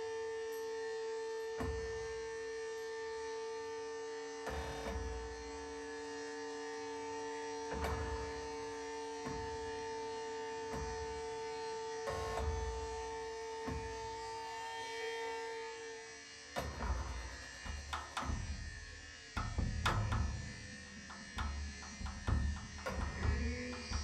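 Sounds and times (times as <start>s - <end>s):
held drone tone: 3.0s - 24.0s.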